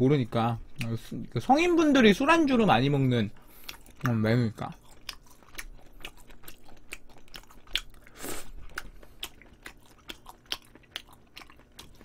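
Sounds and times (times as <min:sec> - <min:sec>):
person chewing meat: 0:00.6 - 0:01.6, 0:03.3 - 0:12.0.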